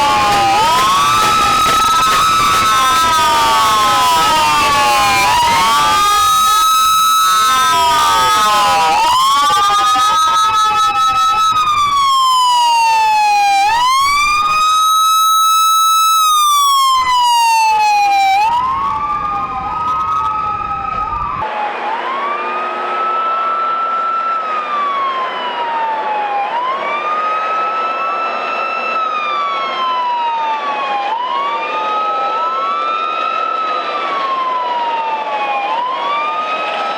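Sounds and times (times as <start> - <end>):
police sirens wailing: 0.0 - 36.9.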